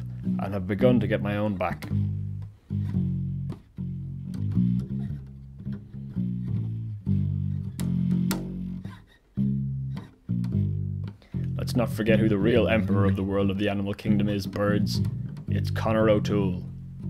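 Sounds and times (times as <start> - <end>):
plucked guitar and bass music: 0.0 - 17.0.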